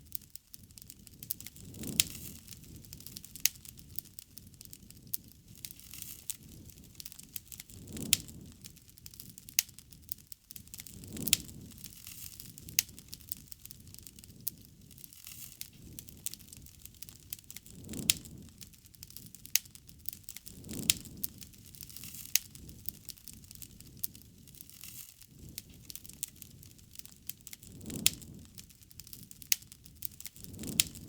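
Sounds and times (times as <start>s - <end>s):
bonfire crackling and popping: 0.0s - 31.0s
soft rush of flame: 0.0s - 31.0s.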